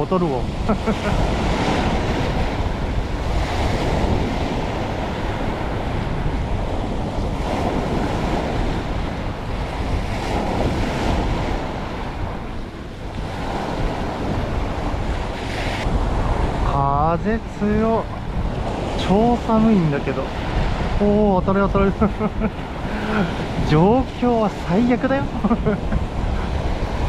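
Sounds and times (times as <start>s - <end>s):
surf washing onto beach: 0.0s - 27.0s
wind buffeting microphone: 0.0s - 27.0s.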